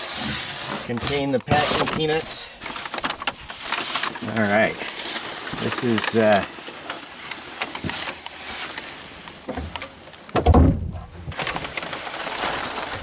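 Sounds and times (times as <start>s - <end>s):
packing peanuts rustling and squeaking: 0.0s - 10.4s, 11.2s - 13.0s.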